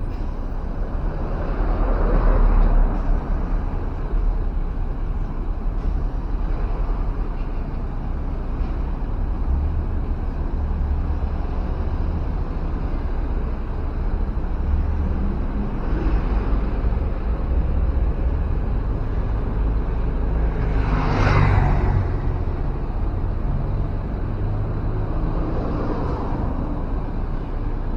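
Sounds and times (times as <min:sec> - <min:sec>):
diesel engine rumbling: 0:00.0 - 0:27.9.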